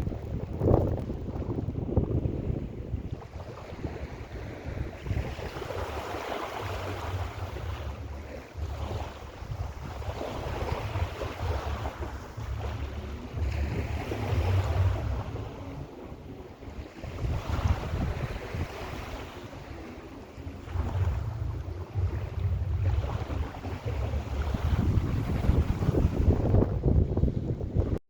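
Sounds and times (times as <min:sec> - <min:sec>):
sea waves breaking on shore: 0:00.0 - 0:28.0
wind rumbling on microphone: 0:00.0 - 0:28.0.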